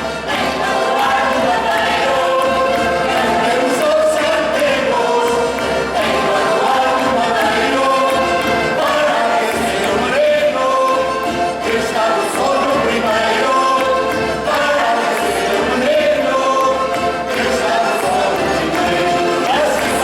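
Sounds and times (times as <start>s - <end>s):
choir singing a folk carol: 0.0s - 20.0s.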